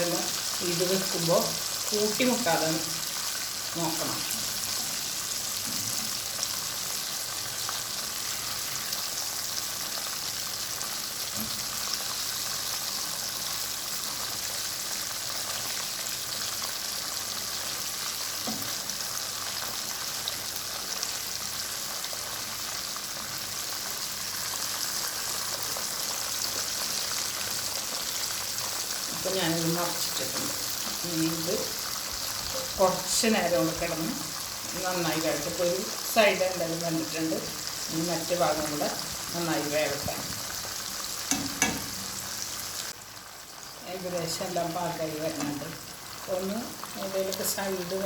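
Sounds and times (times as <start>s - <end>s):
chicken deep-frying in oil: 0.0s - 48.0s.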